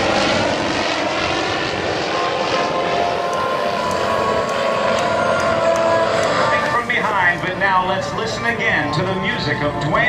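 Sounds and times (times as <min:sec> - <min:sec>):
aircraft engine rush: 0:00.0 - 0:10.0
thin steady whine: 0:00.0 - 0:10.0.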